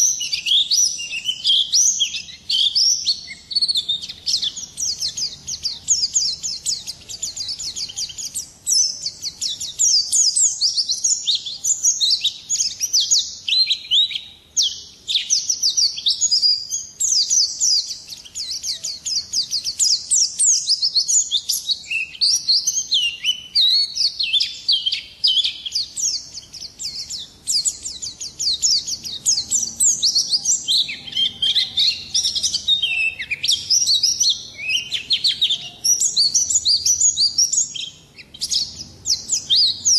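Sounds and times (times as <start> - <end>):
white-eye bird twittering song: 0.0 - 39.9.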